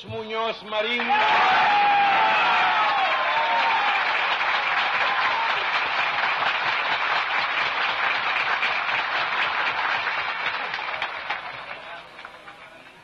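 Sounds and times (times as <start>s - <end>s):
large crowd applauding: 0.9s - 13.0s.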